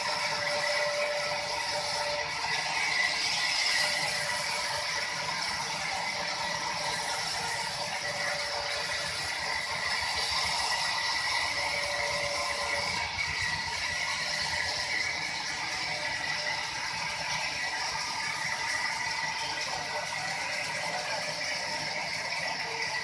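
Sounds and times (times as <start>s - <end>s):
sawmill machinery rattling: 0.0s - 23.0s.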